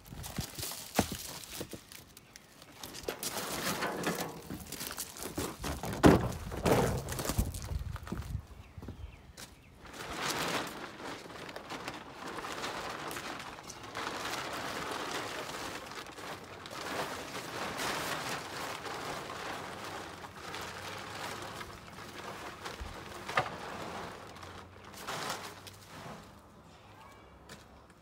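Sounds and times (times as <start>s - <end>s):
plastic tarp rustling: 0.0s - 8.6s, 9.8s - 26.5s.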